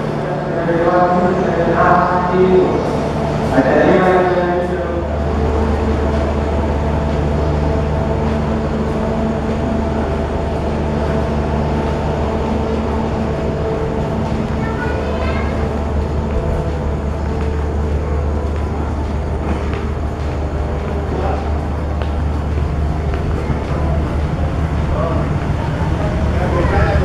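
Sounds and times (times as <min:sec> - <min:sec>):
diesel engine drone: 0:00.0 - 0:27.0
train rumble: 0:00.0 - 0:27.0.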